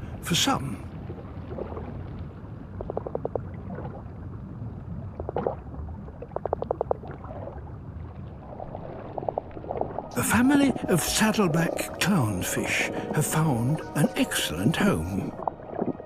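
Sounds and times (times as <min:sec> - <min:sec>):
underwater water rumble: 0:00.8 - 0:16.0.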